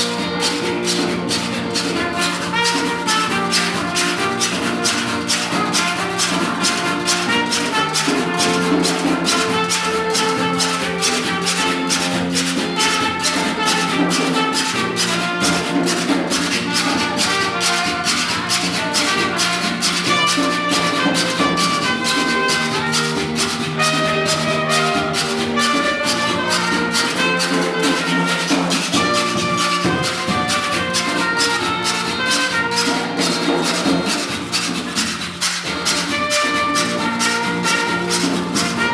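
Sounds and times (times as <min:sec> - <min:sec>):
drum: 0:00.0 - 0:38.9
held melody notes: 0:00.0 - 0:38.9
saw scraped in rhythm: 0:00.0 - 0:38.9.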